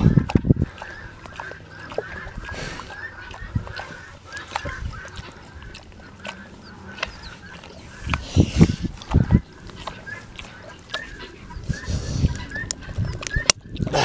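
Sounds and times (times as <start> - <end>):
birds chattering: 0.0 - 14.0
hoof nippers clicking: 0.0 - 14.0.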